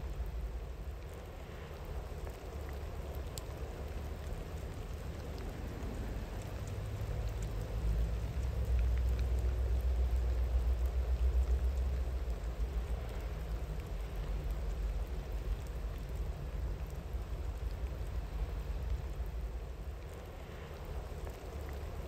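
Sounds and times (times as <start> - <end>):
faint raindrop ticks: 0.0 - 22.0
steady rain hissing: 0.0 - 22.0.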